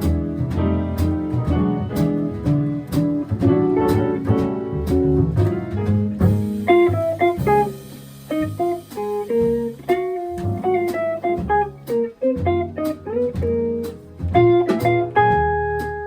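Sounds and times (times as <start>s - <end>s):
bass: 0.0s - 16.0s
drums with cymbal hits: 0.0s - 16.0s
electric guitar melody: 0.0s - 16.0s
piano: 0.0s - 16.0s.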